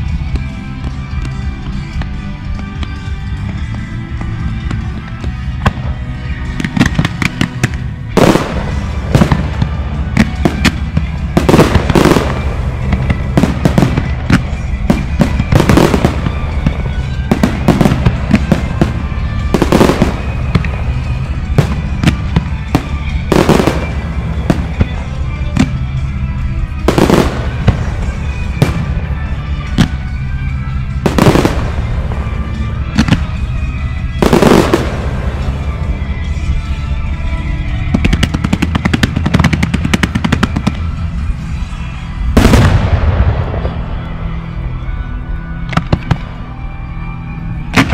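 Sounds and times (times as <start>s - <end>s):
background music: 0.0s - 47.9s.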